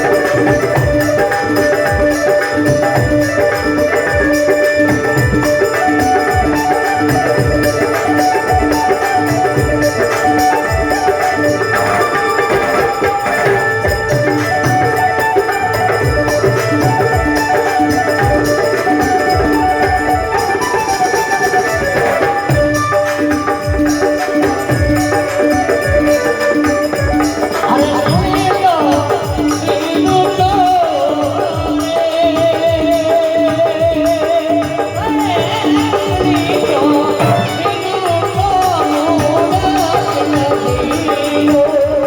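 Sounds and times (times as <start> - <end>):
held melody line: 0.0 - 42.0
jingling percussion: 0.0 - 42.0.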